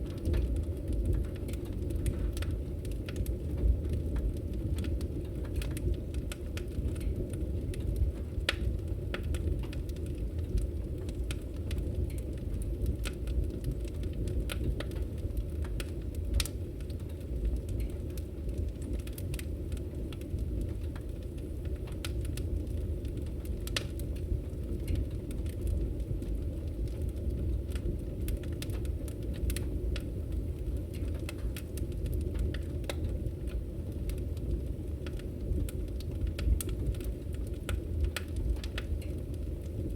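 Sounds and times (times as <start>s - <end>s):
burning logs crackling and popping: 0.0s - 39.9s
fire rumbling: 0.0s - 39.9s.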